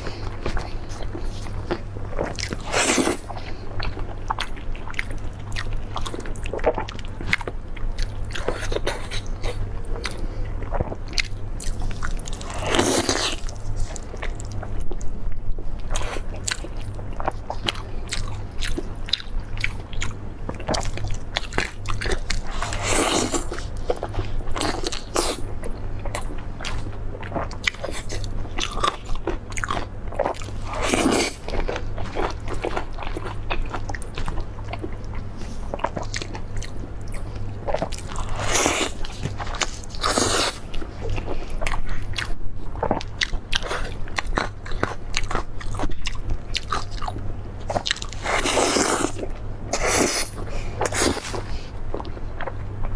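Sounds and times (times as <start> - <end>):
chewing crispy fried fish: 0.0 - 52.9.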